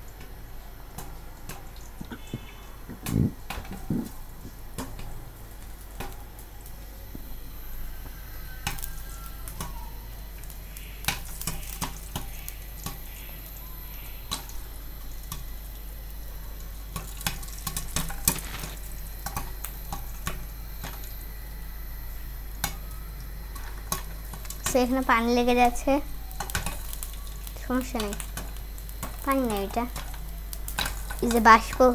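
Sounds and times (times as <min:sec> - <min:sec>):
oil sizzling in a pan: 0:00.0 - 0:31.9
popcorn kernels popping: 0:00.0 - 0:31.9.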